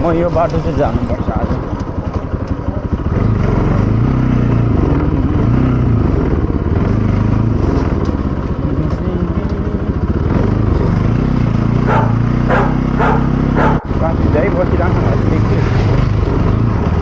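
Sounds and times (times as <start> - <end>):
motorcycle engine revving: 1.4 - 17.0.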